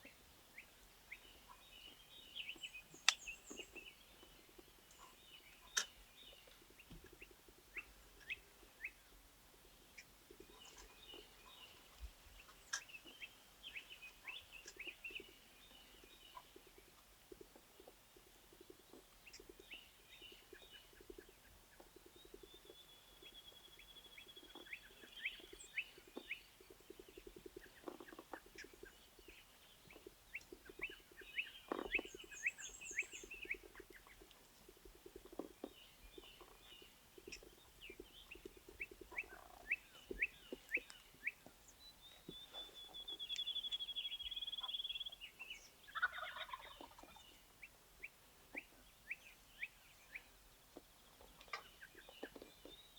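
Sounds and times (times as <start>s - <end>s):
faint turkey gobbling: 0.0s - 52.8s
songbirds chirping and singing: 0.0s - 52.9s.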